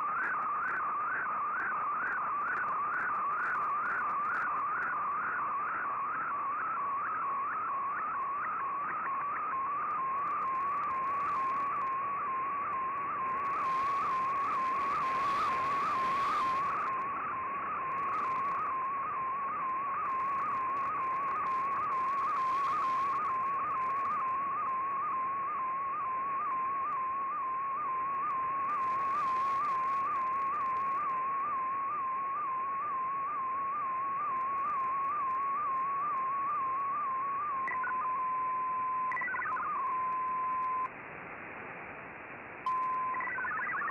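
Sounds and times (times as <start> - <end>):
radio band hiss: 0.0 - 25.8, 26.6 - 43.9.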